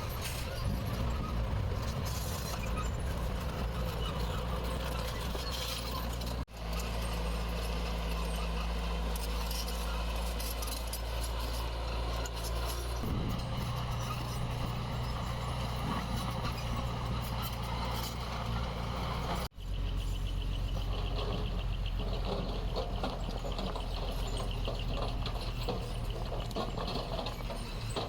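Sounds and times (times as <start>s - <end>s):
heavy diesel engine droning: 0.0s - 28.0s
metallic clanking and rattling: 0.0s - 28.0s.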